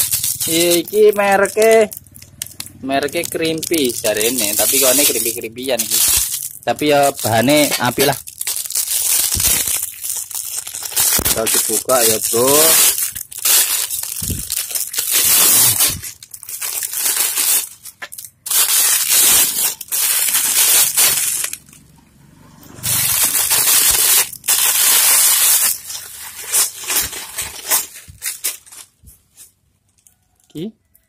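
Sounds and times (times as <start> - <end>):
plastic wrap tearing and crumpling: 0.0 - 21.8, 22.8 - 30.1.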